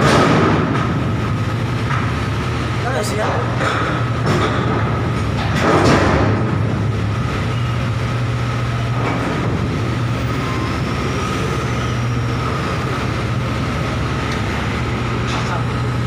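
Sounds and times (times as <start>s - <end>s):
heavy machinery low hum: 0.0s - 16.0s.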